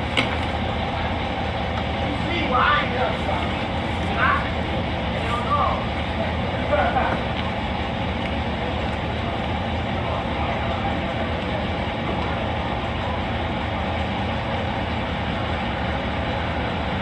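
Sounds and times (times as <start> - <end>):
car engine idling hum and hiss: 0.0 - 17.0.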